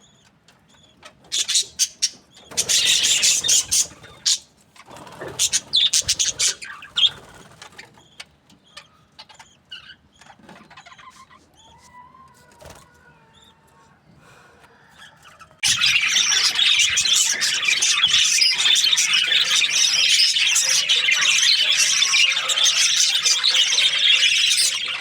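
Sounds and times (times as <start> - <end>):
budgerigars chirping: 0.1 - 11.7, 15.6 - 25.0.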